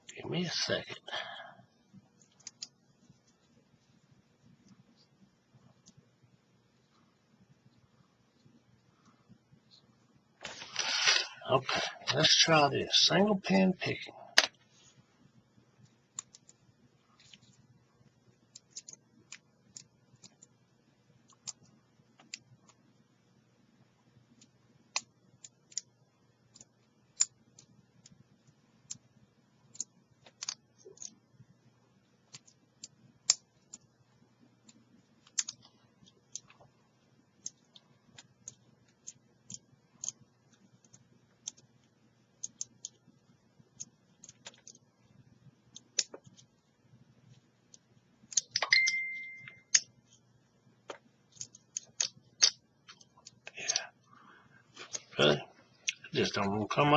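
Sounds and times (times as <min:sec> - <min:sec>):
faint low hum: 0:00.0 - 0:56.9.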